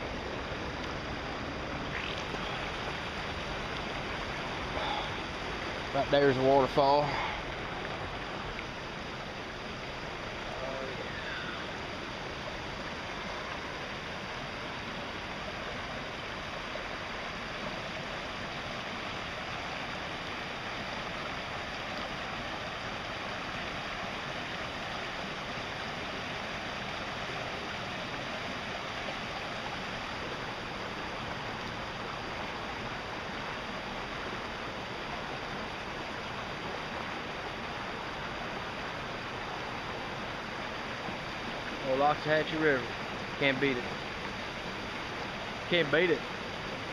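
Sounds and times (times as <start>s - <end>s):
water pouring over waterfall: 0.0s - 46.9s.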